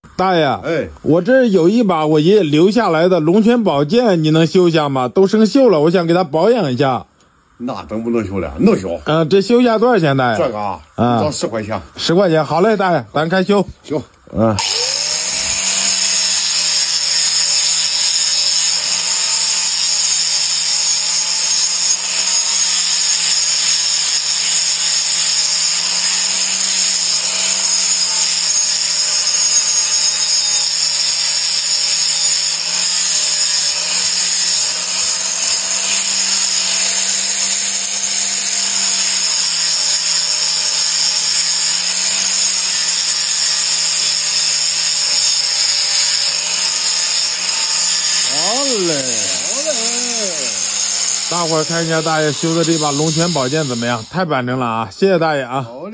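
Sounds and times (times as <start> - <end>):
grinder grinding steel blade: 7.8 - 55.4.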